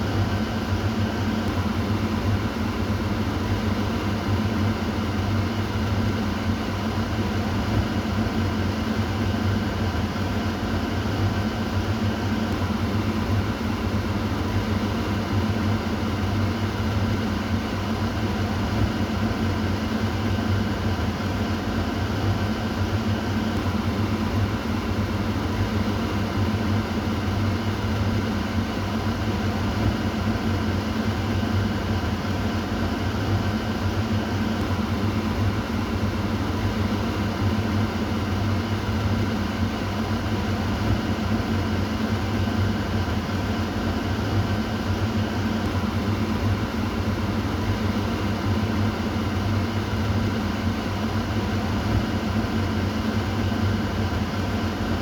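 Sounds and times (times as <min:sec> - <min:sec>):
kitchen exhaust fan running: 0:00.0 - 0:55.0.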